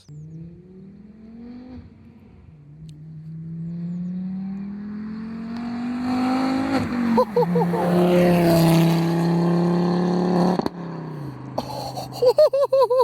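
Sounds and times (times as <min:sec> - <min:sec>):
car engine accelerating hard: 0:00.1 - 0:11.6.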